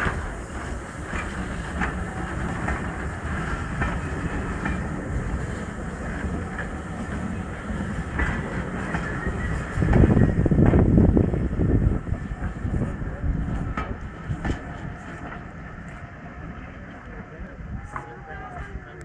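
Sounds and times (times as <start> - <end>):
train coaches rumbling past: 0.0 - 19.0.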